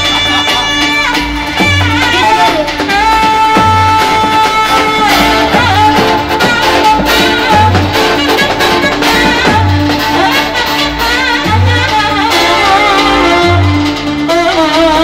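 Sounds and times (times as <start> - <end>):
deep bass notes: 0.0 - 15.0
drum beat: 0.0 - 15.0
saxophone melody: 0.0 - 15.0.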